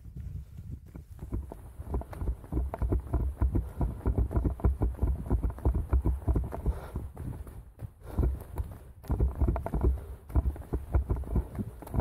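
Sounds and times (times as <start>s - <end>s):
running footsteps: 0.0s - 12.0s.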